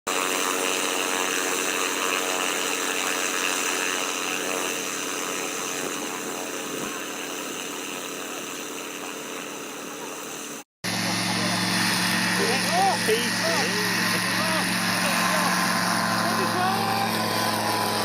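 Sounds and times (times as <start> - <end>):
light aircraft engine and propeller: 0.1 - 18.0.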